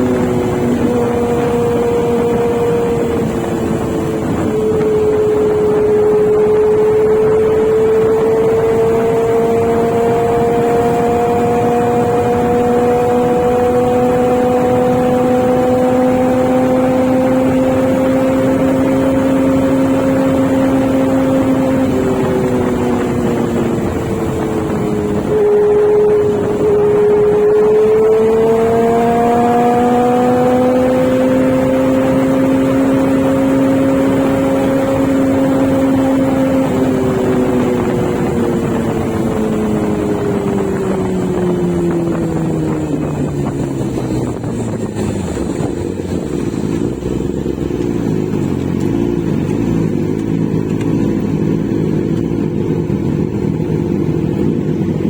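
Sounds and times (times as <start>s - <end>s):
wind rushing: 0.0s - 50.0s
motorcycle engine running: 0.0s - 55.0s.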